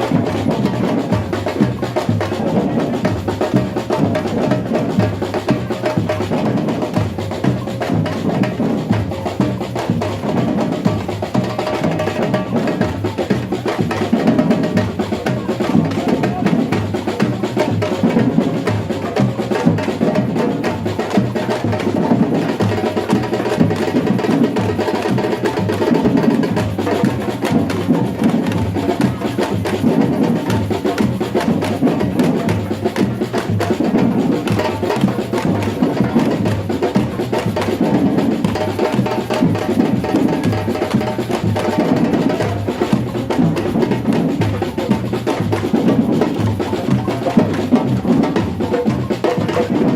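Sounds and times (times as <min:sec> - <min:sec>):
small drums and percussion: 0:00.0 - 0:49.9.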